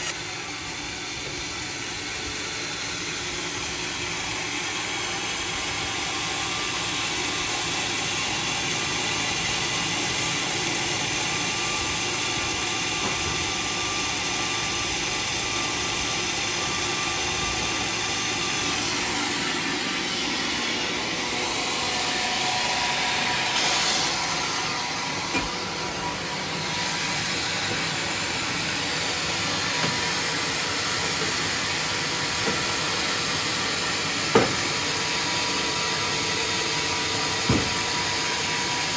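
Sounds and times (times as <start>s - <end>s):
sawmill running: 0.0s - 38.9s.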